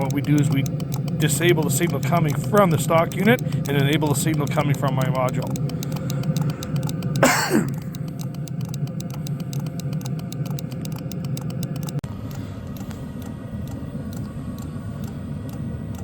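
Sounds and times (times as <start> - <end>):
fuel pump ticking: 0.0 - 16.0
heater blower hum: 0.0 - 16.0.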